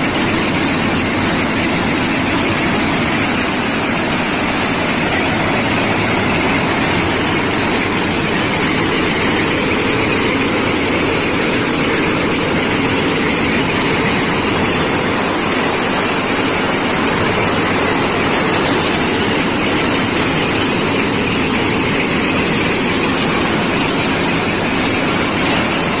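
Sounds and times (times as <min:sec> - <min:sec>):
diesel engine and machinery running: 0:00.0 - 0:26.0.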